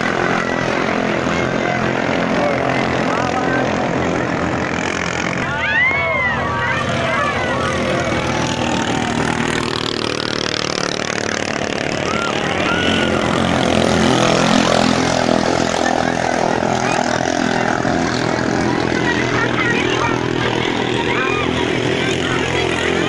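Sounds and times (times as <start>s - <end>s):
racing boat engines passing: 0.0s - 23.0s.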